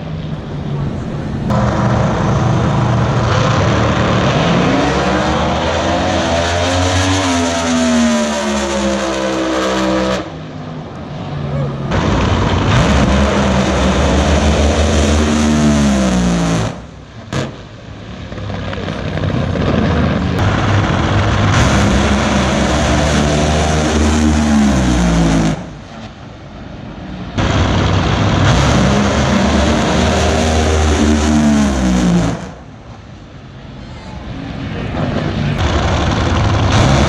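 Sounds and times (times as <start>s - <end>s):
drag racing cars passing: 0.0s - 37.0s.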